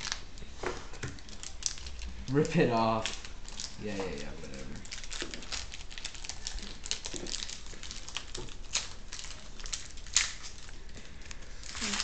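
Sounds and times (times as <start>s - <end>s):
wrapping crinkling and ripping: 0.0s - 12.0s.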